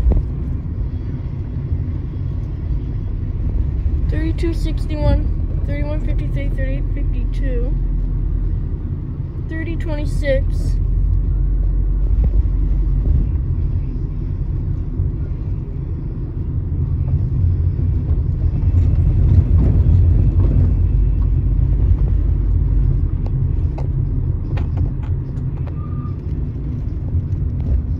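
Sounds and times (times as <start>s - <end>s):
car cabin road noise: 0.0s - 27.9s.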